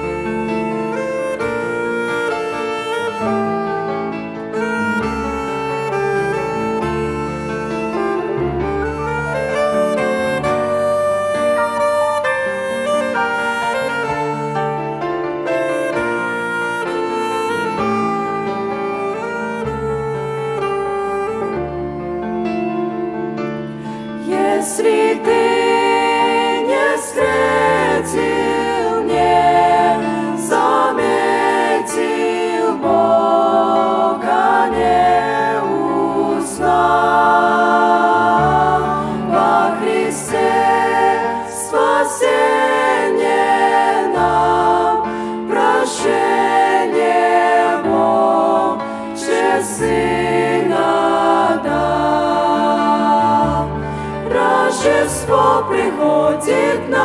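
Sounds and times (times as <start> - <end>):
vocal group singing in harmony: 0.0 - 14.8, 21.4 - 57.0.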